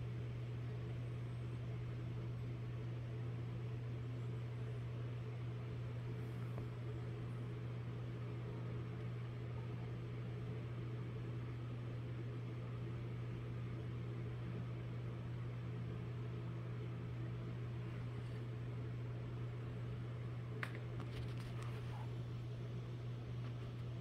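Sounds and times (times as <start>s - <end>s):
low hum with faint hiss: 0.0s - 24.0s.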